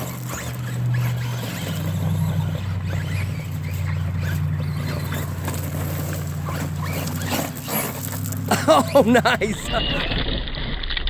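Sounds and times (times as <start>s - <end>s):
electric motor humming: 0.0s - 10.2s.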